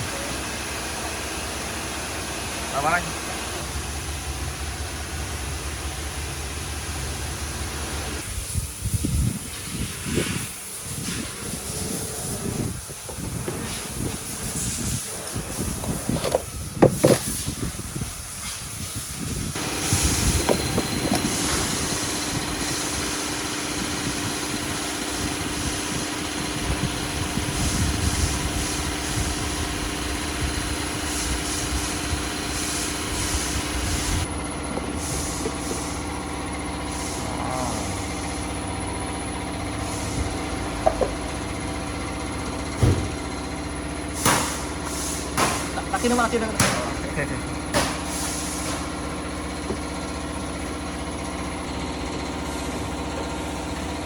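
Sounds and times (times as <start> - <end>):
machine running with hiss: 0.0 - 54.0.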